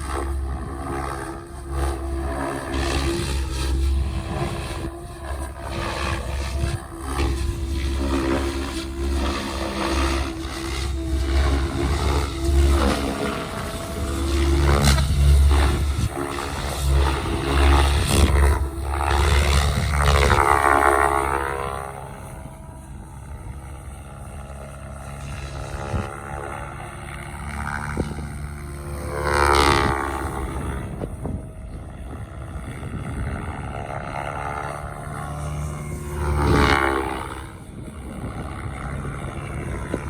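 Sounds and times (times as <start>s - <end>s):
rc helicopter rotors buzzing: 0.0s - 40.0s.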